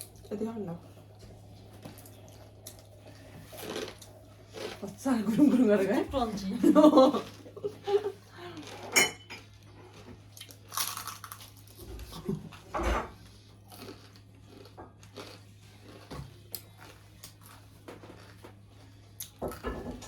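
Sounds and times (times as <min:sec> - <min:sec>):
low electrical hum: 0:00.0 - 0:20.0
crunchy bread chewing: 0:01.0 - 0:05.0, 0:07.2 - 0:20.0.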